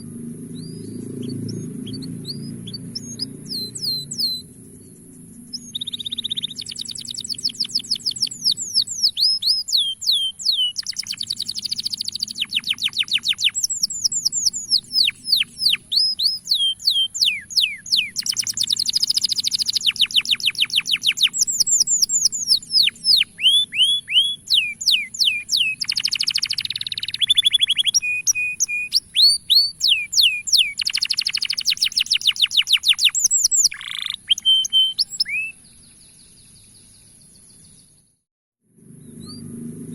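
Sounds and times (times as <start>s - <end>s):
canary singing trills: 0.5s - 38.0s.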